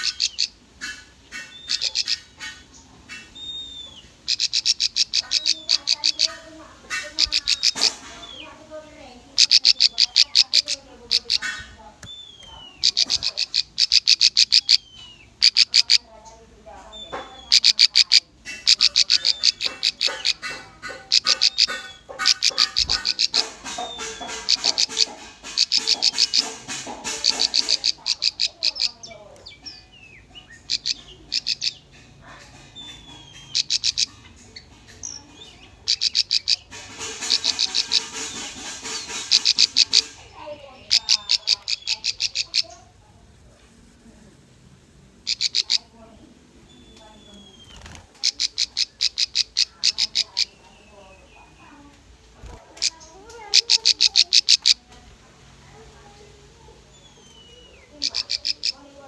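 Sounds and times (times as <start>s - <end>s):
bird rapid high chirps: 0.0s - 16.1s, 16.9s - 42.9s, 45.3s - 45.9s, 46.6s - 51.7s, 52.4s - 54.8s, 57.0s - 58.9s.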